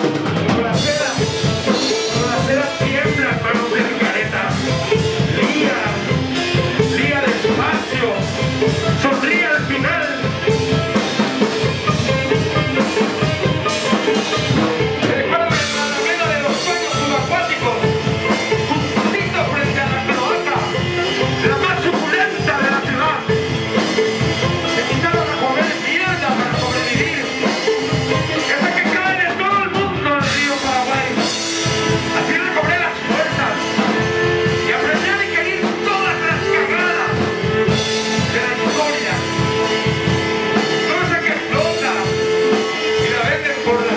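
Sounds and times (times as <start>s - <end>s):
drum kit: 0.0s - 43.9s
electric guitar: 0.0s - 43.9s
violin: 0.0s - 43.9s.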